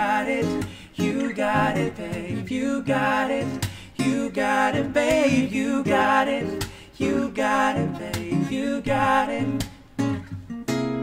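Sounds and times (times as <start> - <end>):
men singing: 0.0 - 9.8
strummed acoustic guitar: 0.0 - 11.0.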